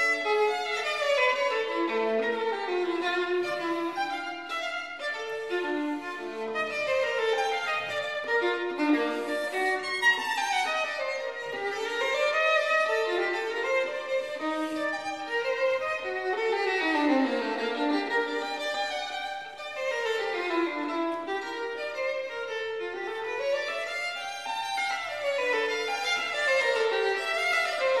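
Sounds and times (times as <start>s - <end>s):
violin playing quick runs: 0.0s - 28.0s.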